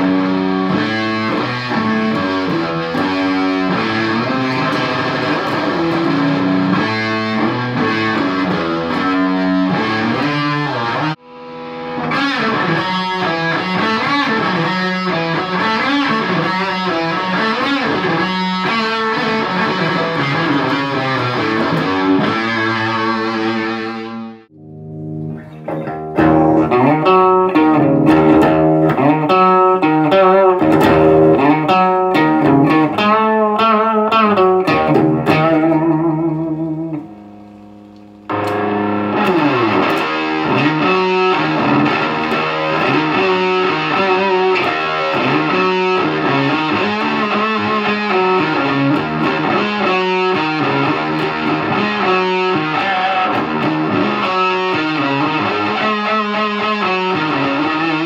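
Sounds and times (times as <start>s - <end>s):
fuzz-distorted electric guitar: 0.0s - 58.0s.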